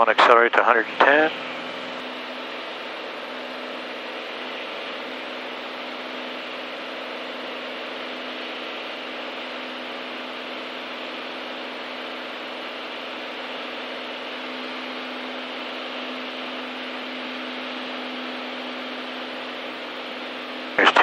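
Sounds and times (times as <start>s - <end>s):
propeller plane engine at full power: 0.0s - 21.0s.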